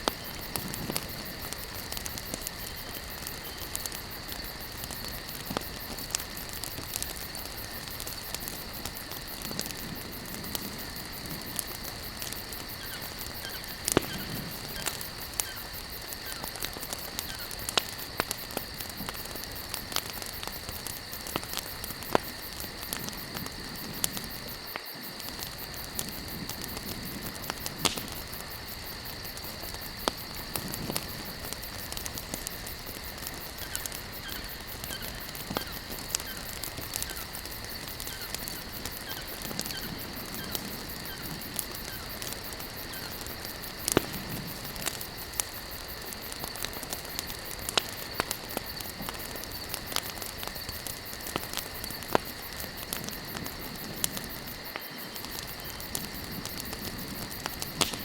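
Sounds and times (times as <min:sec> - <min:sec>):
campfire crackling and popping: 0:00.0 - 0:58.0
insects chirring: 0:00.0 - 0:58.0.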